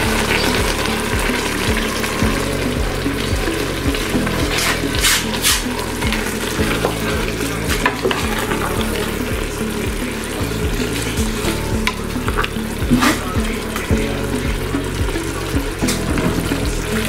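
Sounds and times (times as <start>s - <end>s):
food sizzling: 0.0s - 17.0s
wooden spoon stirring in pot: 0.0s - 17.0s.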